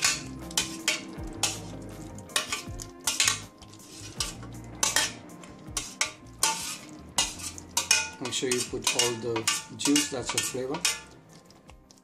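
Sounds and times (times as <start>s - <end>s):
metal kitchenware clinking and scraping: 0.0s - 11.6s.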